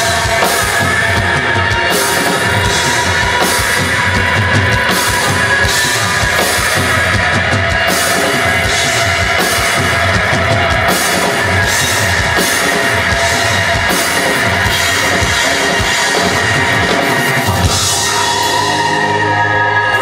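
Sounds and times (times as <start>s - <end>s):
distorted electric guitar: 0.0s - 20.0s
driving drum kit: 0.0s - 20.0s.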